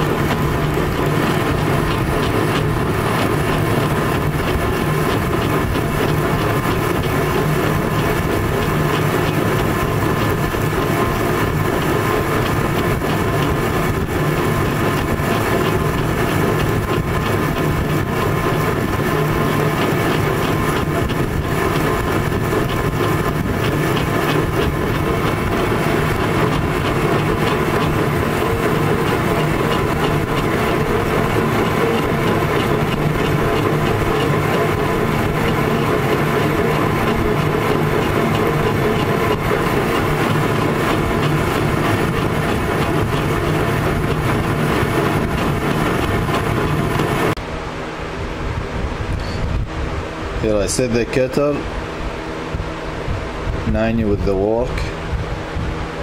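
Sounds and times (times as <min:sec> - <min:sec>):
metal lathe running: 0:00.0 - 0:47.4.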